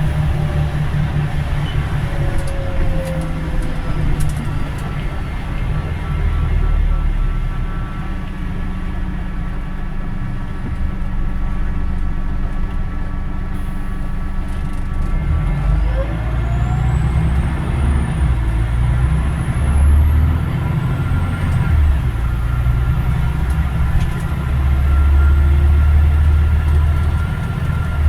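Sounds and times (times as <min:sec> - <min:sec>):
bus engine drone: 0:00.0 - 0:28.0
engine whine: 0:00.0 - 0:28.0.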